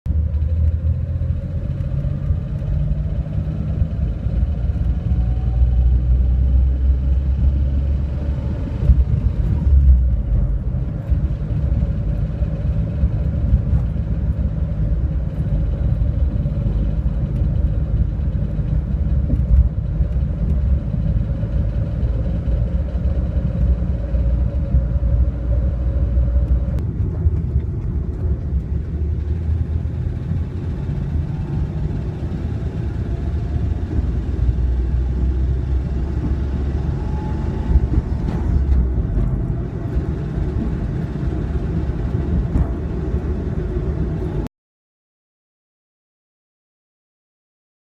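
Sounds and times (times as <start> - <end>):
engine knocking: 0.1 - 25.6, 28.9 - 43.6
car engine low rumble: 0.1 - 44.5.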